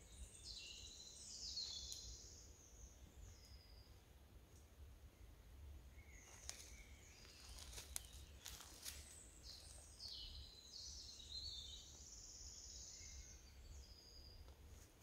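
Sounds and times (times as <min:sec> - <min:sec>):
songbird singing with trill: 0:00.0 - 0:04.1, 0:05.9 - 0:14.6.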